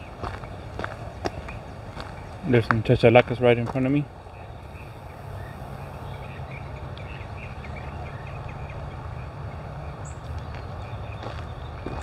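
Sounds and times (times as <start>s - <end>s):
birds chattering calls: 0.0s - 12.0s
steady low rumble: 0.0s - 12.0s.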